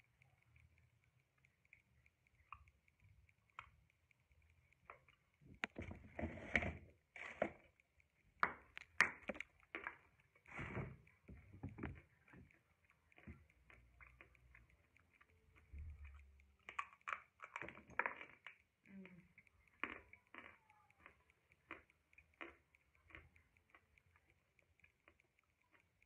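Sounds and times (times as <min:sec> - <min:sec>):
chalk being chewed: 0:00.0 - 0:26.0.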